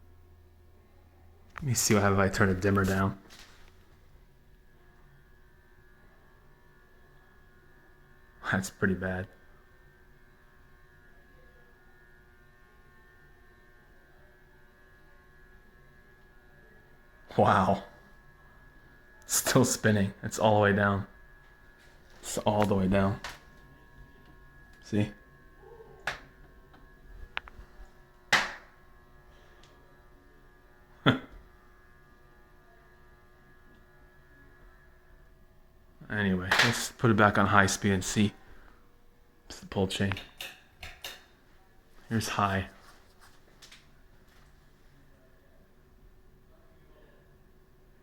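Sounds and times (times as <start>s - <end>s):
ceiling fan motor hum: 0.0s - 48.0s.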